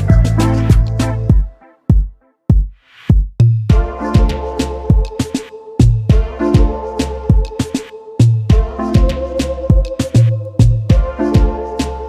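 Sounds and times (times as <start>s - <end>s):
electronic music with kick drums: 0.0s - 12.0s.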